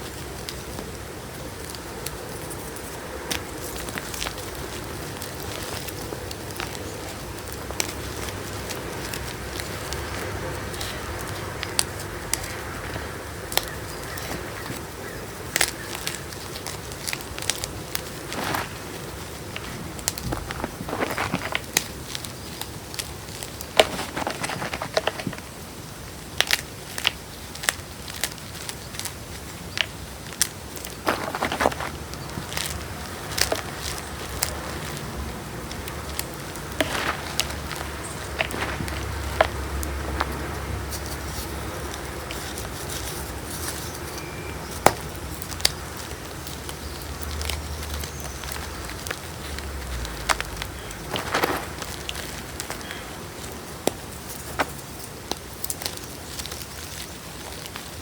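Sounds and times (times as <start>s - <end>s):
chalk crunching by hand: 0.0s - 58.0s.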